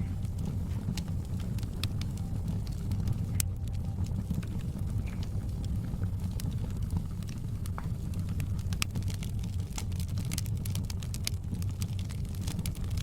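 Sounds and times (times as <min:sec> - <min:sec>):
fire pops and snaps: 0:00.0 - 0:13.0
wood fire crackling: 0:00.0 - 0:13.0.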